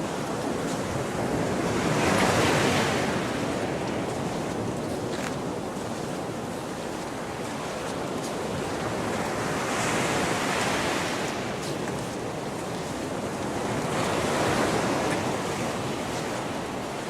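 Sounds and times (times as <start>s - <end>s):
surf washing onto beach: 0.0s - 17.0s
wind on microphone: 0.0s - 17.0s.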